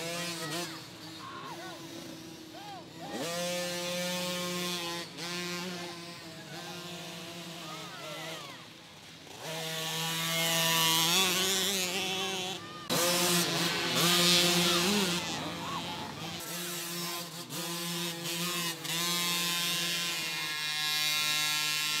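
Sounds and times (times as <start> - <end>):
dirt bike engines buzzing: 0.0 - 22.0.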